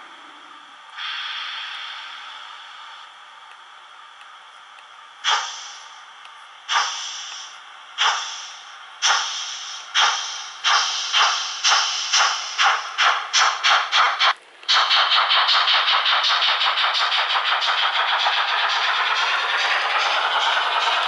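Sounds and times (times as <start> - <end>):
steam hissing from small speaker: 0.9 - 3.0, 5.2 - 6.0, 6.6 - 21.0
steam locomotive chuffing: 1.0 - 3.0, 5.2 - 6.0, 6.6 - 21.0.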